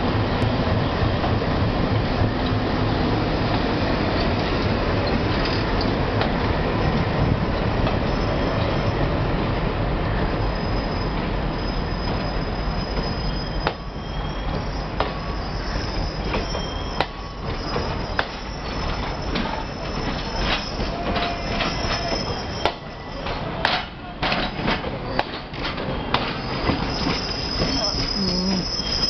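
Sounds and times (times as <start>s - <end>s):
train rolling past: 0.0s - 29.0s
train wheels squealing on rails: 1.4s - 29.0s.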